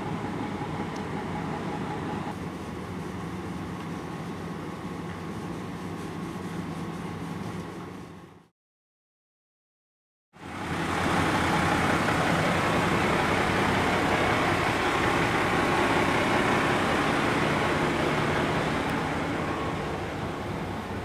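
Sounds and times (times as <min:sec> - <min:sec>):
diesel bus engine idling: 0:00.0 - 0:08.4, 0:10.4 - 0:21.0.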